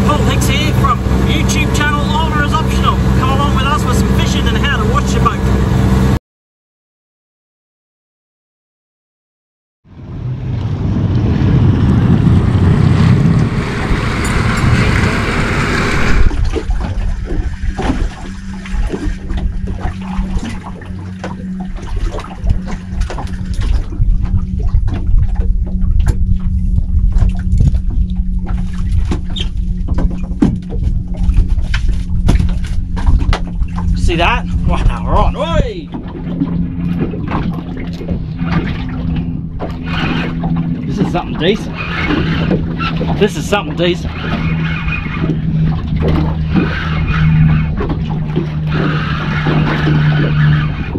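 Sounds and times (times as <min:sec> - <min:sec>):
boat engine hum: 0:00.0 - 0:06.2, 0:09.8 - 0:50.9
loud water-like wash: 0:00.0 - 0:06.2, 0:09.9 - 0:50.9
water noise: 0:00.0 - 0:06.2, 0:09.9 - 0:50.9
wind: 0:00.0 - 0:06.2, 0:09.8 - 0:50.9.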